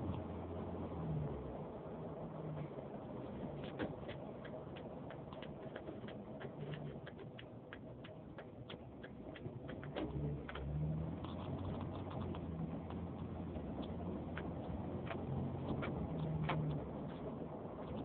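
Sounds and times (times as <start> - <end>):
engine and road noise hum: 0.0 - 18.0
turn signal clicking: 3.5 - 18.0.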